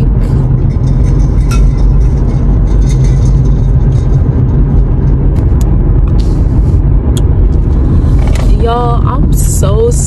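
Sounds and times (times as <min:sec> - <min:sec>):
road and engine rumble: 0:00.0 - 0:10.0.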